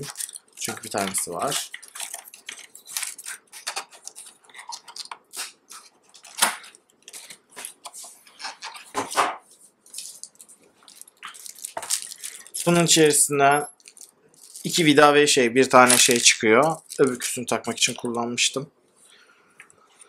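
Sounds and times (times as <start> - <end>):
plastic packaging crinkling: 0.0 - 9.2, 9.8 - 18.2.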